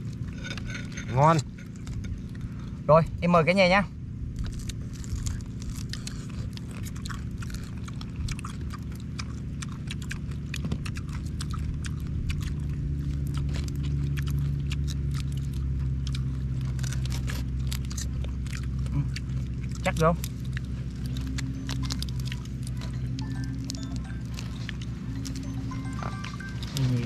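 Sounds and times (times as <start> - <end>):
steady low rumble: 0.0 - 27.0
chewing: 0.1 - 2.8, 4.3 - 27.0.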